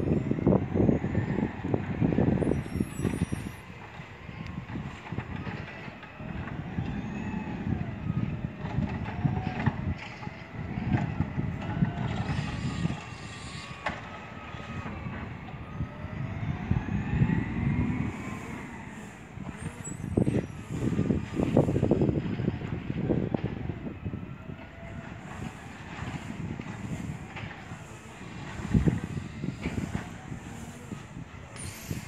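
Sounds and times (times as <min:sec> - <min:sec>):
whines rising and falling: 0:00.0 - 0:08.5, 0:10.6 - 0:32.0
diesel truck engine: 0:00.0 - 0:32.0.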